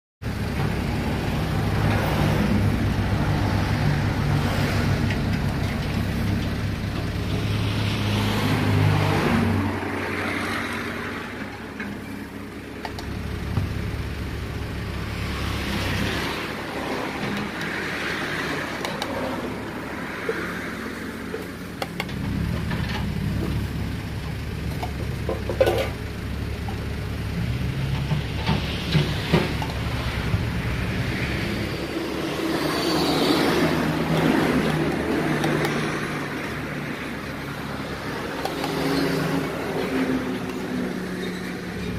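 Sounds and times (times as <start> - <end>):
motor traffic rumble: 0.2 - 41.9.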